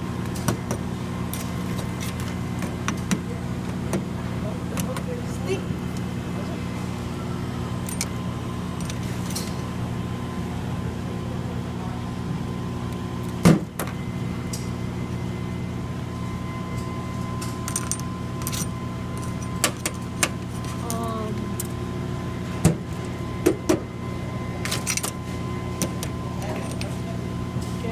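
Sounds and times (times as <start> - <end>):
steady mechanical hum: 0.0 - 27.9.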